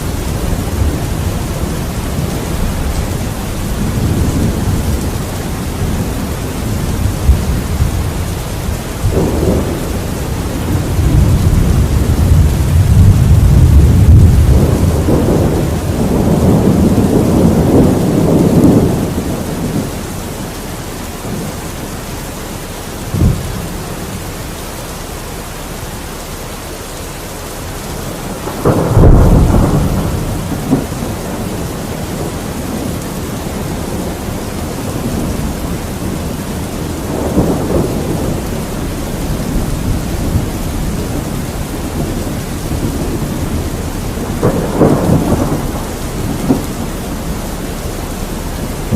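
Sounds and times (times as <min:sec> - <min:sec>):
thunder crack: 0:00.0 - 0:19.8, 0:23.1 - 0:23.7, 0:28.1 - 0:48.9
rolling thunder: 0:00.0 - 0:21.8, 0:22.8 - 0:24.6, 0:27.5 - 0:48.9
rain hiss: 0:00.0 - 0:48.9.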